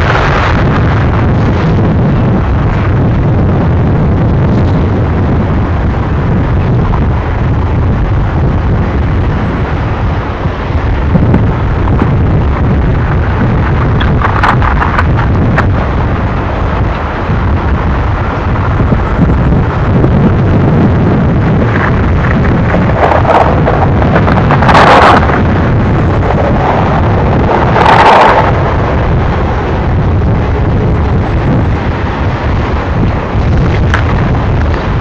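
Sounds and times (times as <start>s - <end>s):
freight train rumbling: 0.0s - 35.0s
wind on microphone: 0.0s - 35.0s.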